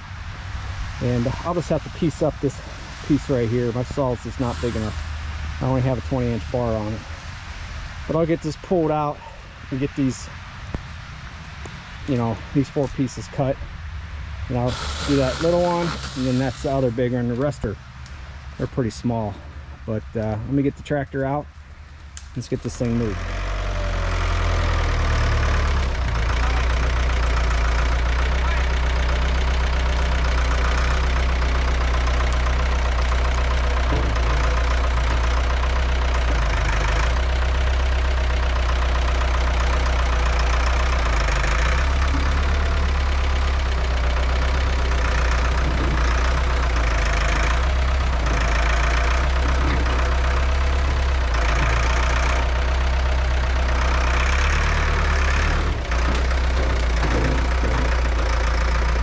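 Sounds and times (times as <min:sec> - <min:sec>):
tractor engine humming: 0:00.0 - 0:59.0.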